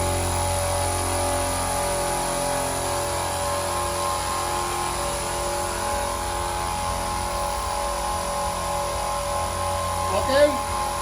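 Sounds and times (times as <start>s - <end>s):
air compressor motor hum: 0.0s - 11.0s.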